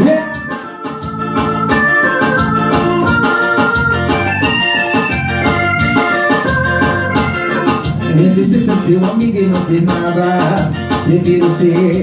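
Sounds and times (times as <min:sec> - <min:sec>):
electronic keyboard organ melody: 0:00.0 - 0:12.0
steady beat: 0:00.0 - 0:12.0.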